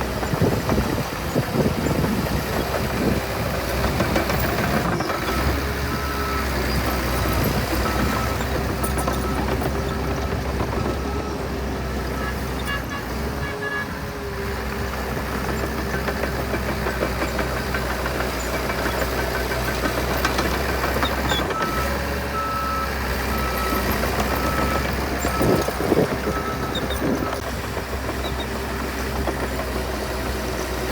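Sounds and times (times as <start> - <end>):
heavy machinery diesel engine: 0.0 - 30.9.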